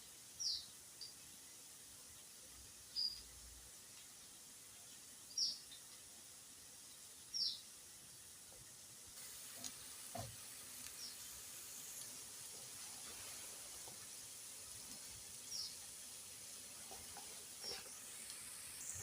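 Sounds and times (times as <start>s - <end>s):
fritters sizzling in oil: 0.0s - 19.0s.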